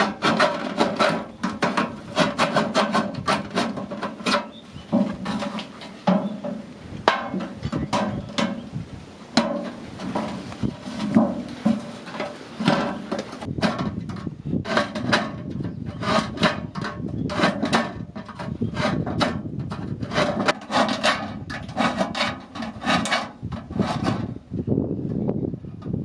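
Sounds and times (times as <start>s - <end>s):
rasping scraping strokes: 0.0s - 8.8s, 9.4s - 24.4s.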